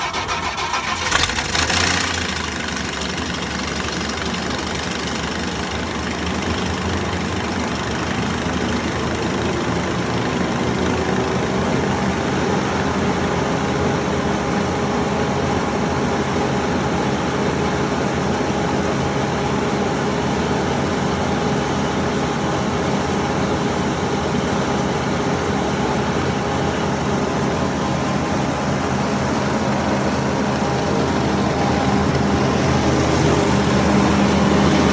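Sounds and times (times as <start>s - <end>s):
wood chipper engine running: 0.0s - 34.9s.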